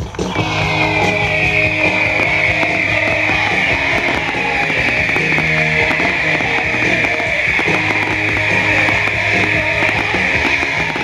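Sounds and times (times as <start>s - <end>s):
faint crackles: 0.0s - 11.0s
firework fountains hissing: 0.0s - 11.0s
music: 0.0s - 11.0s.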